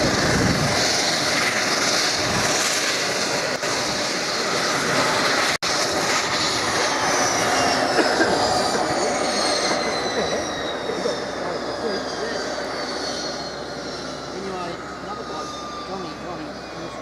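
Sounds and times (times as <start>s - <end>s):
high falling whine: 0.0s - 17.0s
turboprop engine roar: 0.0s - 17.0s.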